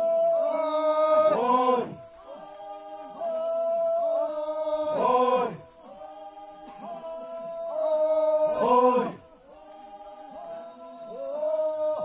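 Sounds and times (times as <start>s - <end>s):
men chanting together: 0.0s - 12.0s.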